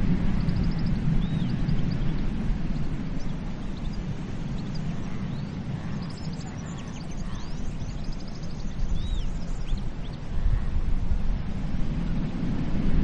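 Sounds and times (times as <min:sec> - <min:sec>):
small birds chirping: 0:00.0 - 0:10.8
sea waves washing on beach: 0:00.0 - 0:13.0.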